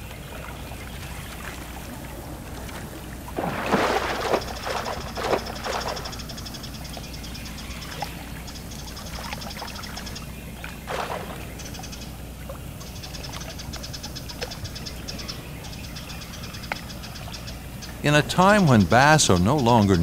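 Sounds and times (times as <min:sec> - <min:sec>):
soft water splashes: 0:00.0 - 0:17.9
steady low hum: 0:00.0 - 0:20.0
rapidly pulsing animal trills: 0:03.9 - 0:20.0.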